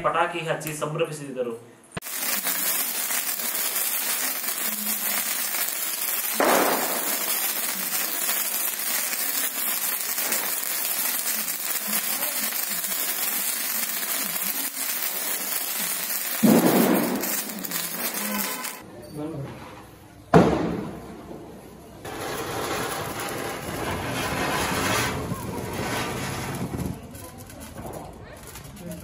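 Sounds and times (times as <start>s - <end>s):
sparklers crackling fizz: 2.0s - 18.8s, 22.0s - 29.0s.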